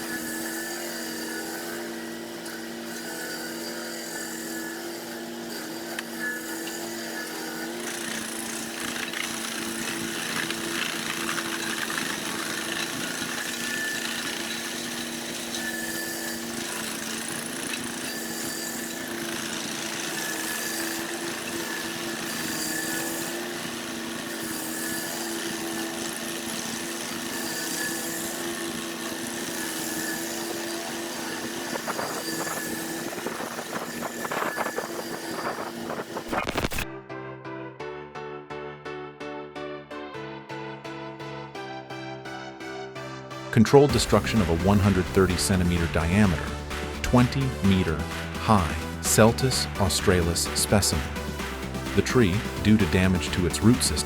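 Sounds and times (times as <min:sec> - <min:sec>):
cutting machine engine: 0:00.0 - 0:36.8, 0:43.6 - 0:54.0
grinding noise: 0:00.0 - 0:36.8, 0:43.8 - 0:54.0.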